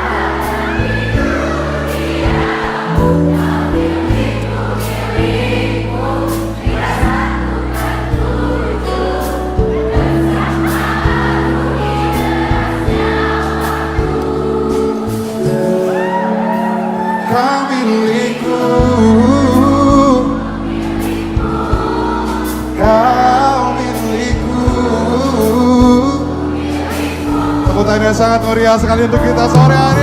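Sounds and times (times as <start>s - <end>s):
crowd singing along: 0.0s - 30.0s
live pop band playing: 0.0s - 30.0s.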